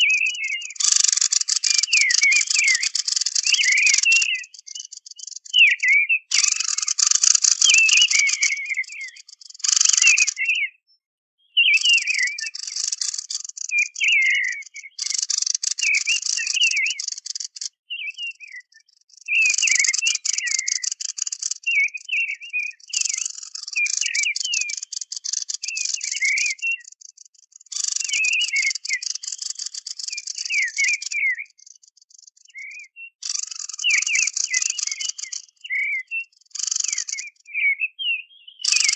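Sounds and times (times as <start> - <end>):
bird song with buzzing rattles: 0.0 - 10.8, 11.4 - 38.9
bird chirping notes: 0.0 - 38.9.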